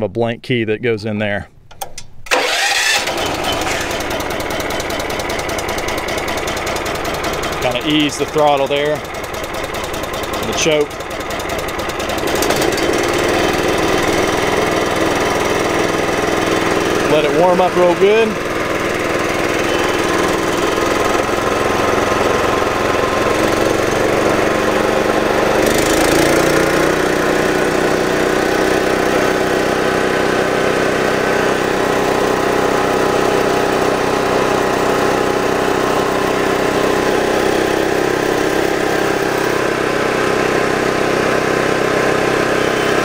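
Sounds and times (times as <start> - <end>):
wood chipper gas engine running: 2.3 - 43.0.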